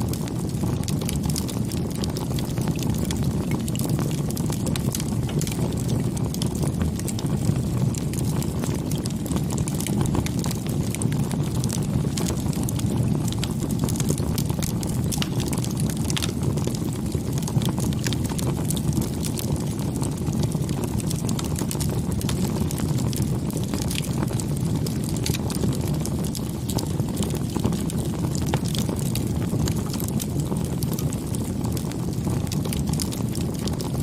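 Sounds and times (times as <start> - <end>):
low fire rumble: 0.0 - 34.0
wood bonfire crackling and popping: 0.0 - 34.0.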